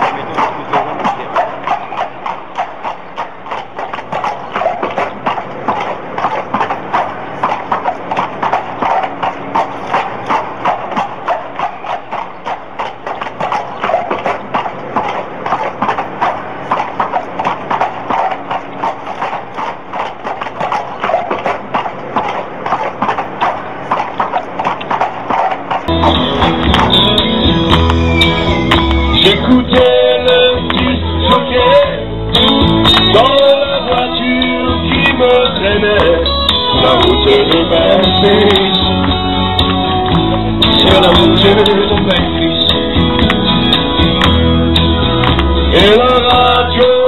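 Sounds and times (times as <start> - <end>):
horse hooves clip-clopping on asphalt: 0.0 - 47.0.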